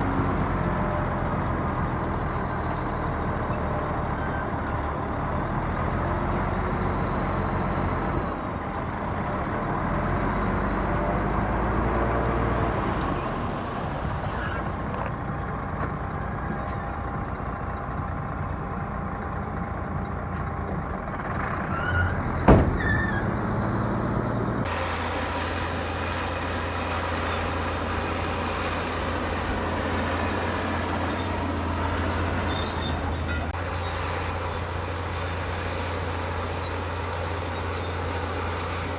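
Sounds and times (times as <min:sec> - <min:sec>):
diesel machinery running: 0:00.0 - 0:38.9.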